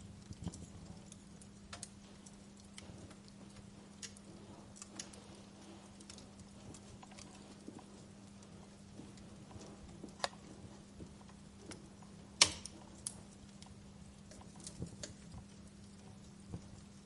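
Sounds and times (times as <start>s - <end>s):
fire crackling and popping: 0.0s - 17.0s
steady low hum: 0.0s - 17.0s.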